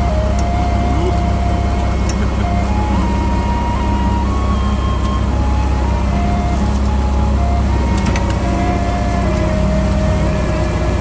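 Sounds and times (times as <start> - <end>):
held tones shifting pitch: 0.0 - 11.0
loud engine drone: 0.0 - 11.0.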